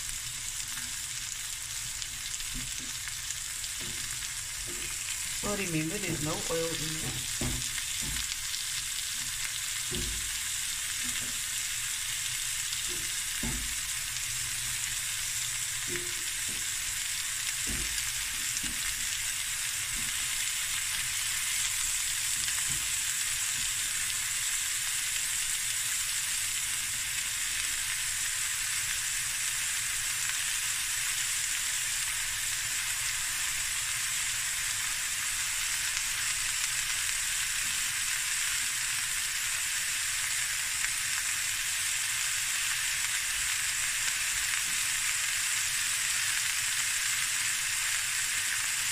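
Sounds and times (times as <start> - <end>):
chicken sizzling in a pan: 0.0 - 48.9.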